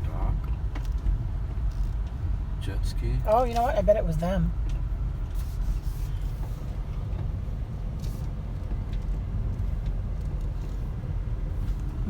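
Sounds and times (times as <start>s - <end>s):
car driving heard from inside: 0.0s - 12.0s.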